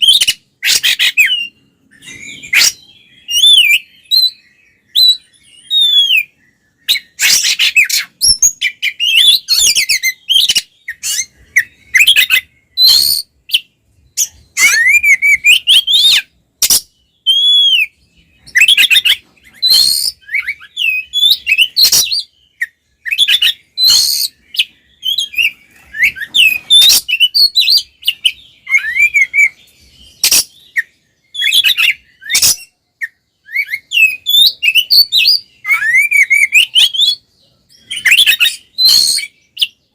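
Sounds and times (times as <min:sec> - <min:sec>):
bird singing sliding whistles: 0:00.0 - 0:39.8.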